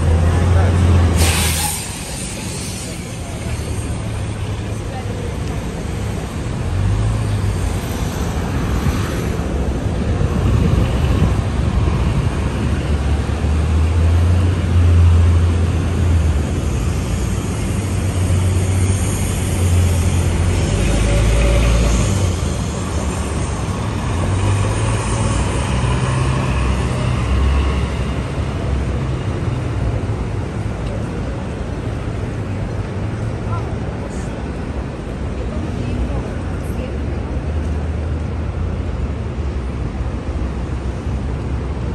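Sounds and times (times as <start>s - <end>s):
cars and buses passing: 0.0s - 41.9s
low traffic rumble: 0.0s - 41.9s.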